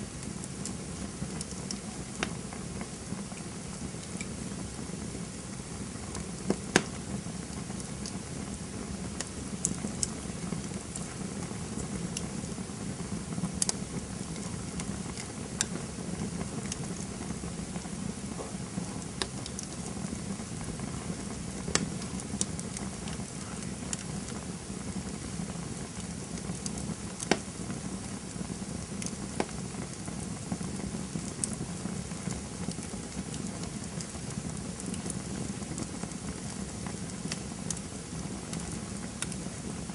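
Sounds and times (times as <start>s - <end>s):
flames rushing: 0.0s - 39.9s
wood crackling and popping: 0.0s - 39.9s.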